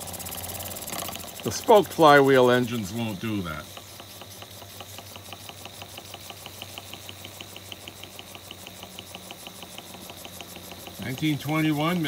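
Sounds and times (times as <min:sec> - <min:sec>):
steam hissing: 0:00.0 - 0:12.0
toy steam engine chuffing: 0:00.0 - 0:12.0.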